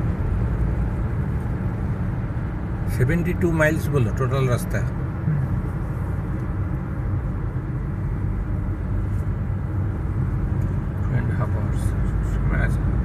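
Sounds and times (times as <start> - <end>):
car engine rumble: 0.0 - 13.0
tyre road noise: 0.0 - 13.0.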